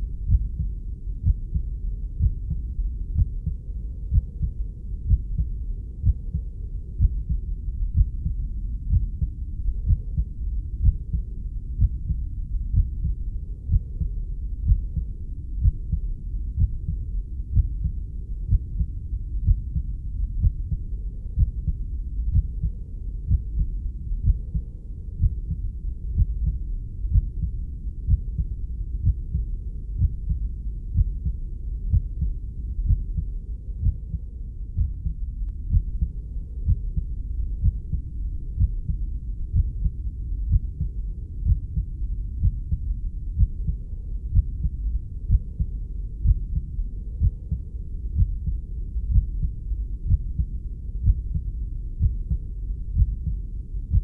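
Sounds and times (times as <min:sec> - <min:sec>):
low whooshing rumble: 0:00.0 - 0:54.0
muffled heartbeat thudding: 0:00.0 - 0:54.0.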